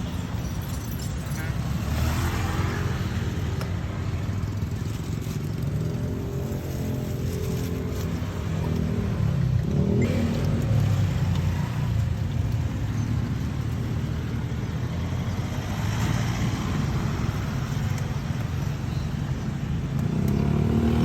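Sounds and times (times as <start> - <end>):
rumble of passing traffic: 0.0 - 21.0.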